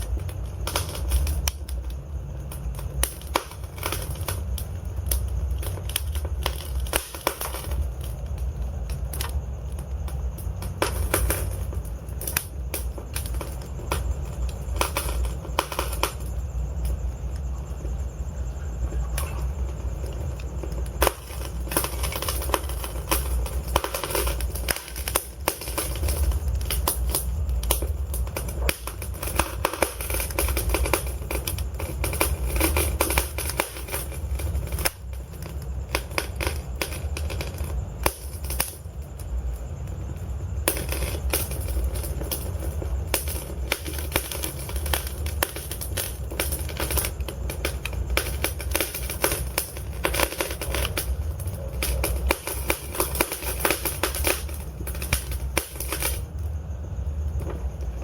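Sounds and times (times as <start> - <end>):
fire flames rumbling: 0.0 - 58.0
logs crackling and popping: 0.0 - 58.0.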